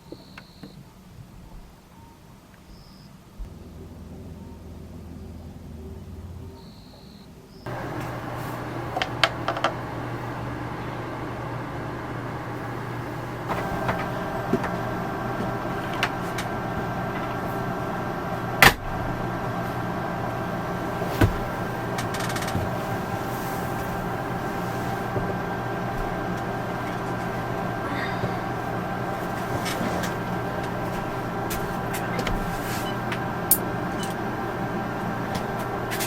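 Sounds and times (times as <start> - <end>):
machine hum with steady tones: 0.0 - 36.0.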